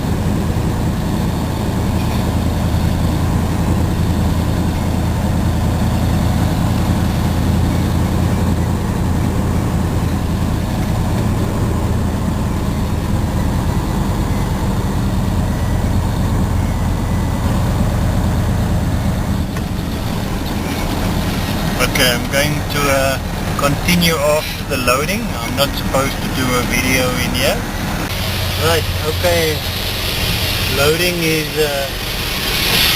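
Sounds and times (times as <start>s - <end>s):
heavy truck diesel engine running: 0.0s - 32.9s.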